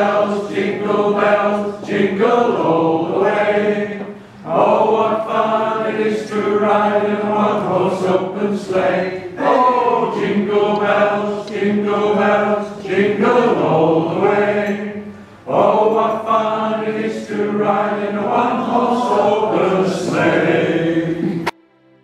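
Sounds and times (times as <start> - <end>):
men singing unaccompanied: 0.0 - 21.5.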